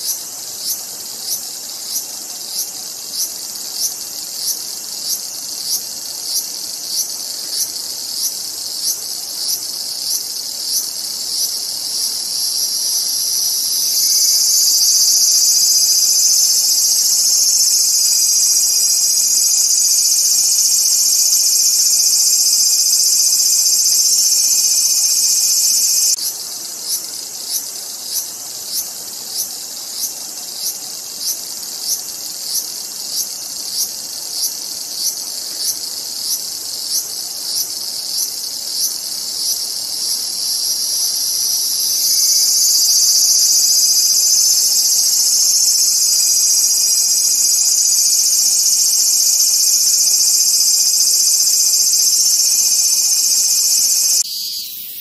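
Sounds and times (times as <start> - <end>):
cicada buzzing: 0.0 - 55.0.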